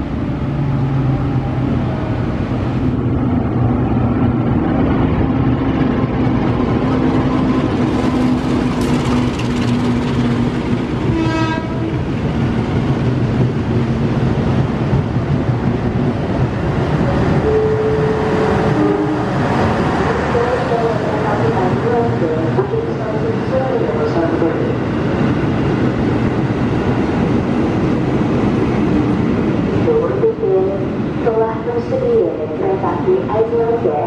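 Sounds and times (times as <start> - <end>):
locomotive engine drone: 0.0 - 34.0
train coaches rolling rumble: 0.0 - 34.0.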